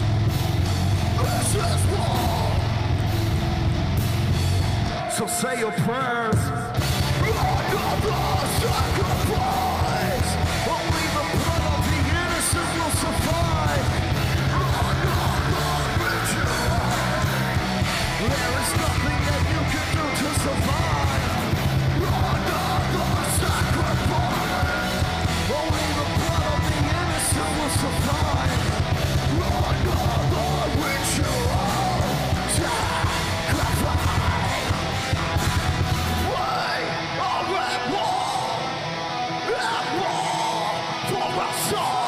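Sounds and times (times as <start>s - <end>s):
bass guitar: 0.0s - 42.0s
distorted electric guitars: 0.0s - 42.0s
fast rock drumming: 0.0s - 42.0s.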